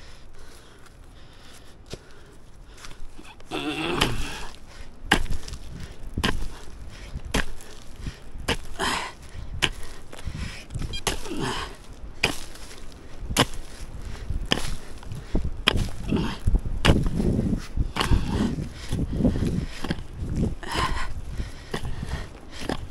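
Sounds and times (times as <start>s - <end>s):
digging tool chopping ground: 3.2s - 22.9s.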